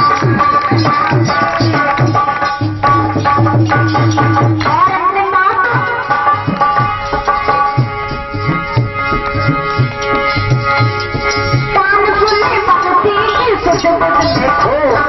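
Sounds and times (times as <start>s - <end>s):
tabla strokes: 0.0s - 15.0s
wavering melody line: 0.0s - 15.0s.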